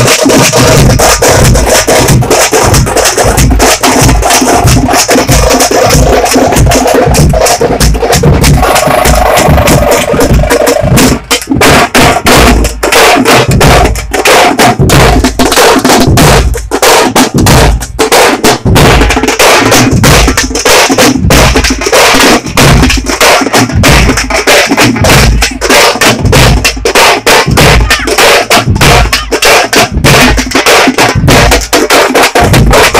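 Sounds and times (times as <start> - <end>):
drum band playing loud rhythm: 0.0 - 32.9.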